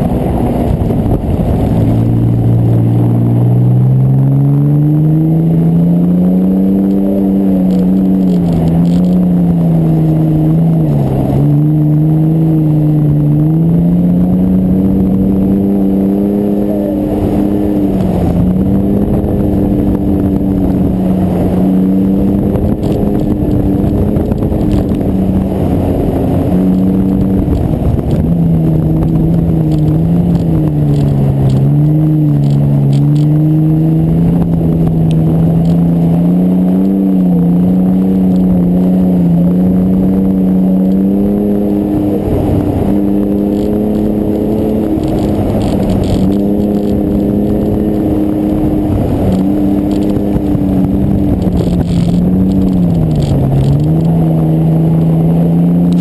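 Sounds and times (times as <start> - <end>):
car engine running under load: 0.0 - 56.0
steady rush of noise: 0.0 - 56.0.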